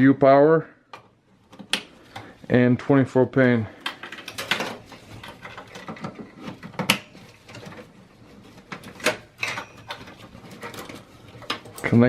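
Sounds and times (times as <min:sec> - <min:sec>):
cables rustling: 0:01.3 - 0:12.0.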